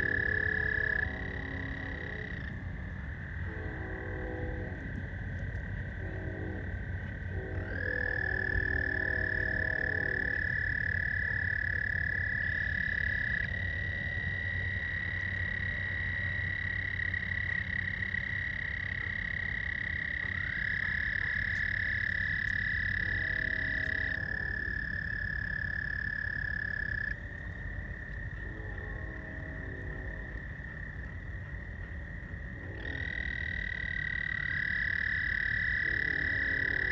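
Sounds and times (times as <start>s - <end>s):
frogs trilling: 0.0s - 36.9s
low pulsing frog call: 0.0s - 36.9s
low rumble: 0.0s - 36.9s.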